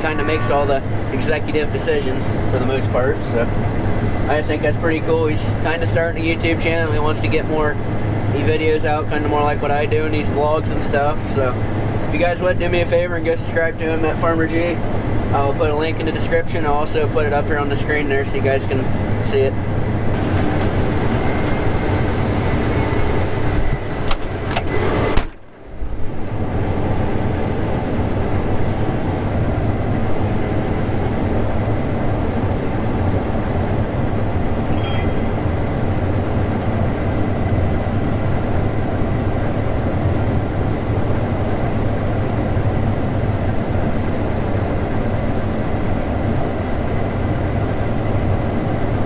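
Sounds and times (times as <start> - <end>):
combine harvester droning: 0.0 - 49.0.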